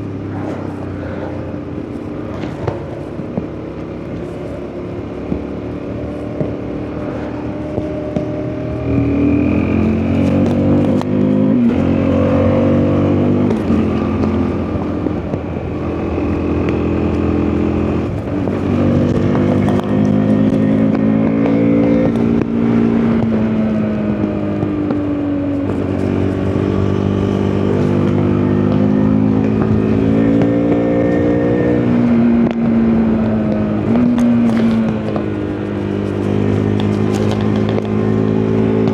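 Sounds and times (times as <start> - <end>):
motorcycle engine revving and shifting: 0.0 - 38.9
wind noise: 0.0 - 38.9.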